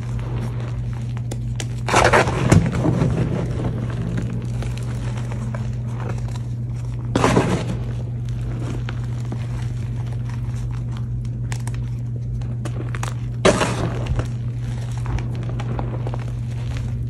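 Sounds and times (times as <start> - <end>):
hands crushing powdery chalk: 0.0 - 17.0
steady low hum: 0.0 - 17.0.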